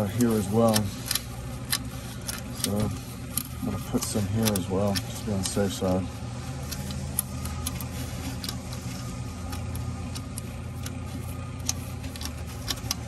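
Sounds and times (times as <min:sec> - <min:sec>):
low machine hum: 0:00.0 - 0:13.0
putty clicks and rubbing: 0:00.0 - 0:13.0.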